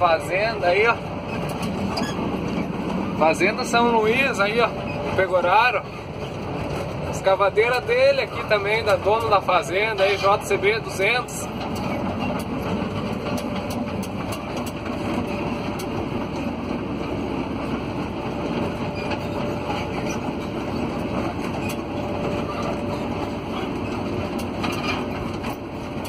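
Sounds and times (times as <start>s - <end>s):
diesel engine running: 0.0s - 26.0s
tracks clattering: 0.0s - 26.0s.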